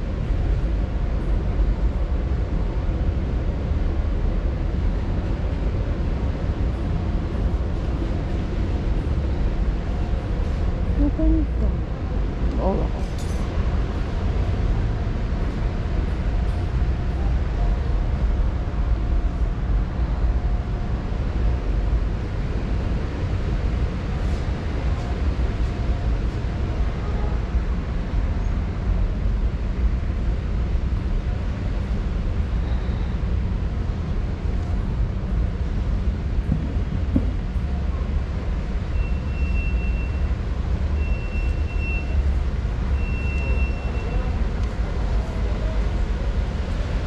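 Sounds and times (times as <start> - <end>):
low rumble of store background: 0.0 - 47.0.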